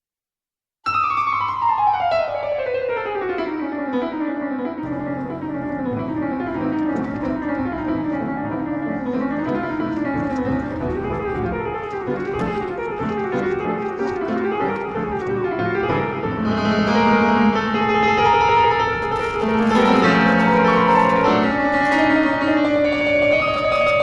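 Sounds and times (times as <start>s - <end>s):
piano music: 0.9s - 24.0s.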